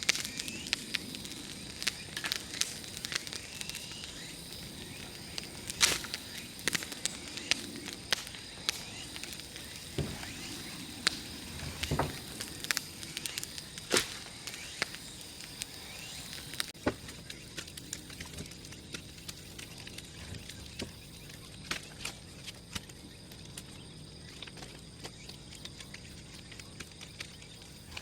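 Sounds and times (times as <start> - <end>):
bonfire crackling: 0.0 - 28.0
firewood popping: 0.0 - 28.0.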